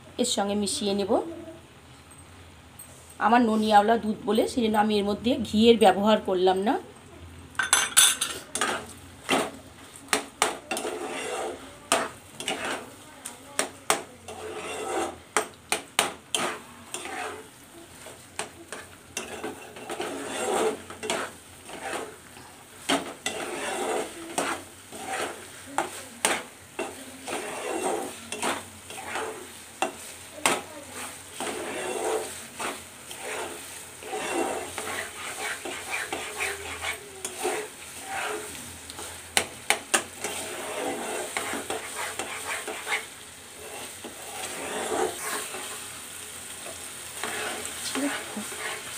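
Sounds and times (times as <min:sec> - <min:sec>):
mixture sizzling: 0:07.1 - 0:48.9
metal spatula scraping a pan: 0:07.6 - 0:48.9.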